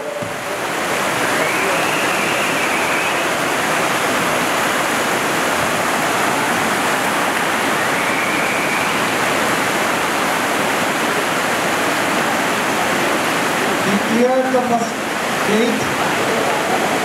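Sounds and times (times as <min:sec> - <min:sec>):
river rapids rushing: 0:00.0 - 0:17.0.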